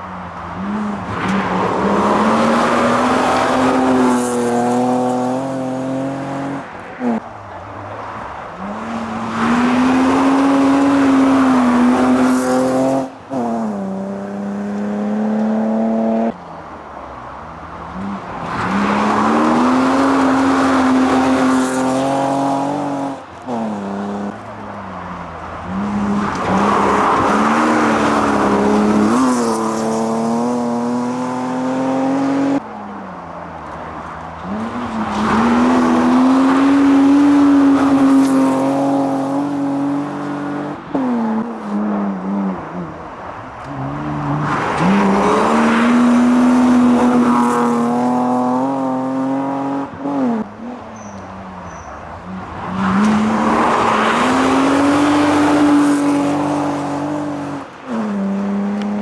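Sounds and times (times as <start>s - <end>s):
rally cars revving at full throttle: 0.0s - 59.0s.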